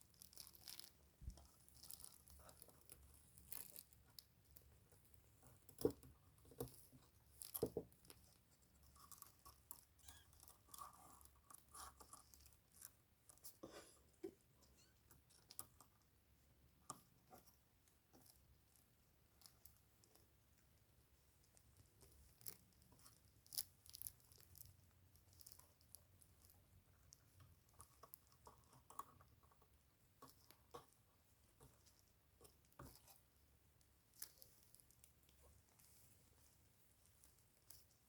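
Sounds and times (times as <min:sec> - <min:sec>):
small clicks and crunching: 0:00.0 - 0:16.1, 0:16.8 - 0:38.0.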